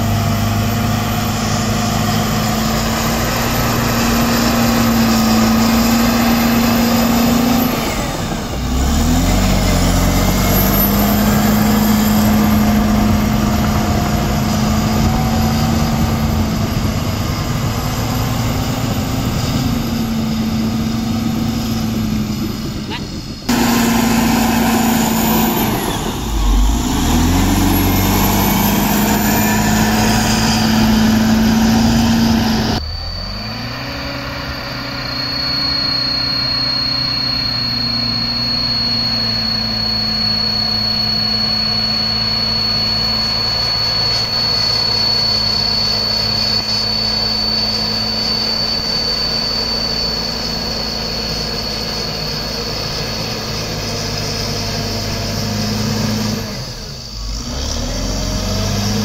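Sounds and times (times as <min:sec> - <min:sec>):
bulldozer diesel engine under load: 0:00.0 - 0:59.0
thin high whistle: 0:00.3 - 0:59.0.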